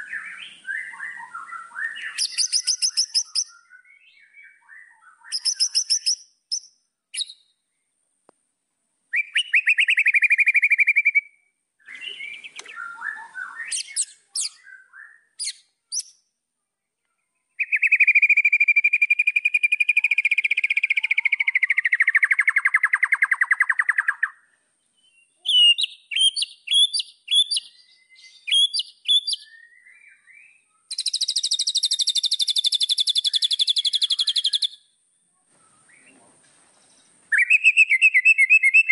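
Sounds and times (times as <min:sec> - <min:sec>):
songbird singing varied phrases: 0:00.0 - 0:08.0, 0:09.1 - 0:38.9.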